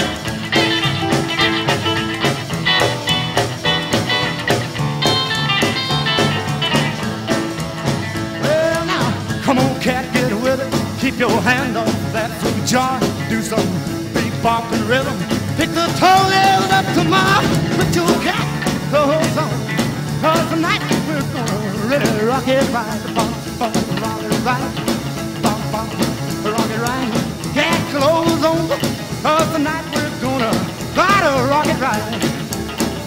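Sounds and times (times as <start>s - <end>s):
rockabilly music: 0.0s - 33.0s.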